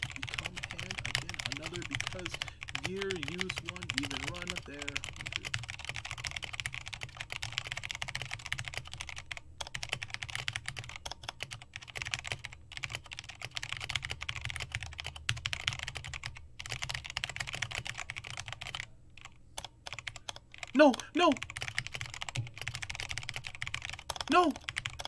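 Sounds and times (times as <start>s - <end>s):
fast typing on mechanical keyboard: 0.0s - 25.0s.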